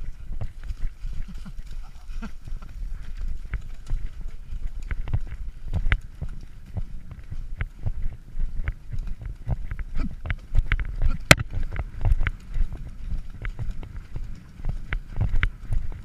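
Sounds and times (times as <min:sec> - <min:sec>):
horse hoofbeats: 0:00.0 - 0:16.0
wind on microphone: 0:00.0 - 0:16.0.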